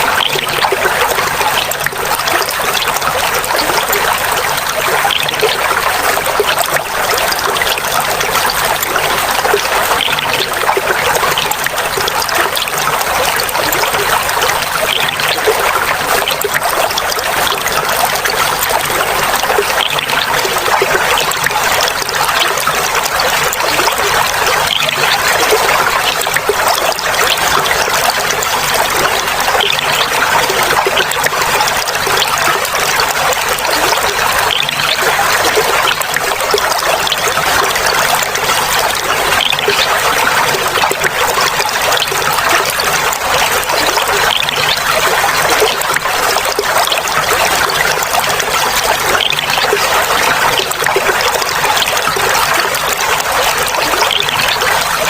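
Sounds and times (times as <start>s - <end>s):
water trickling and babbling: 0.0s - 55.0s.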